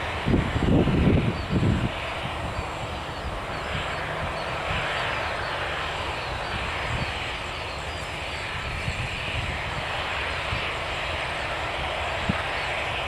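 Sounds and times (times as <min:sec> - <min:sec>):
distant turboprop airliner drone: 0:00.0 - 0:13.0.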